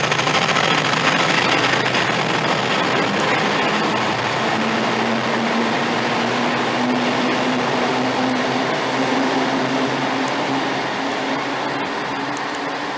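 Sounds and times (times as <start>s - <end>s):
train hum: 0.0s - 12.9s
wheels on rail: 0.0s - 12.9s.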